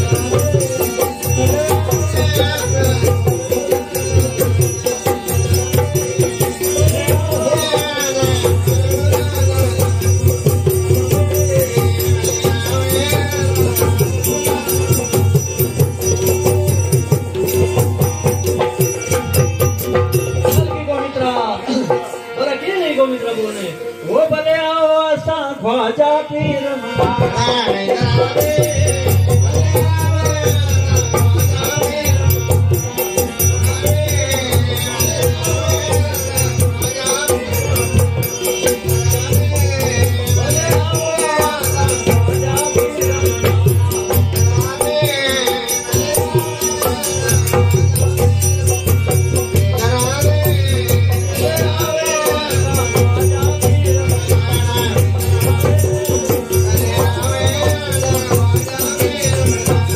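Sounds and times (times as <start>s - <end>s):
rattling shaker percussion: 0.0s - 20.9s, 27.9s - 59.9s
folk singing: 0.0s - 22.8s, 24.0s - 59.9s.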